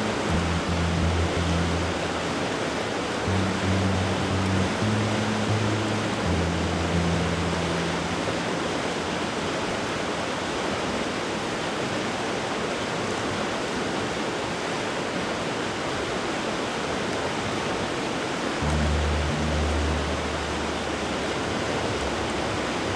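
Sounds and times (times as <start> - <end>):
brook water rushing: 0.0 - 22.9.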